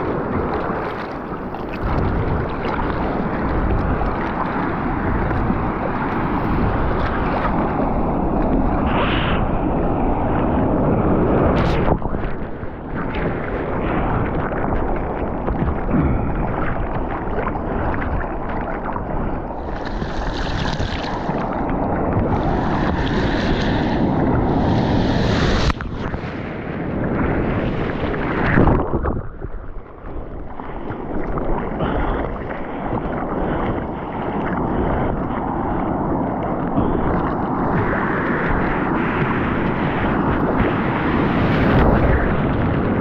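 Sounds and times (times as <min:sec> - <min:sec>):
ocean surf and rushing water: 0:00.0 - 0:43.0
wind buffeting the microphone: 0:00.0 - 0:43.0.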